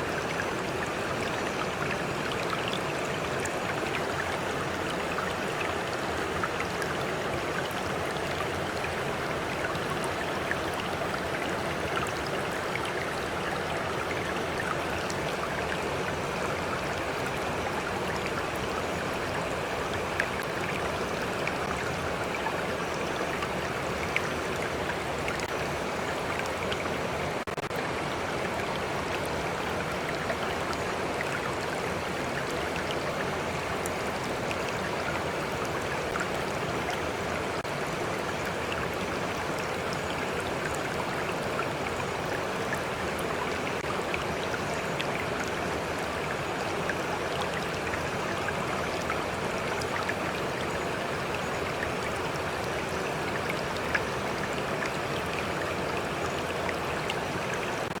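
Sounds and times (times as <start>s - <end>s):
stream water flowing over rocks: 0.0s - 58.0s.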